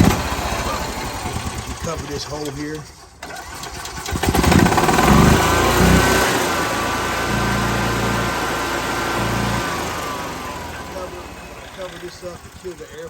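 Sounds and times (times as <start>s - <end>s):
golf cart engine revving: 0.0s - 13.0s.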